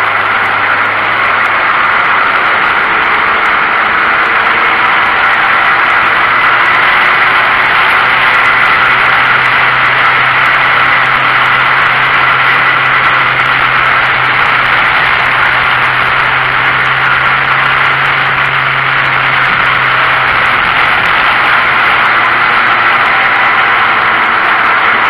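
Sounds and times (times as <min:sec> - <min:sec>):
race car engine running: 0:00.0 - 0:25.0
wind and road noise: 0:00.0 - 0:25.0.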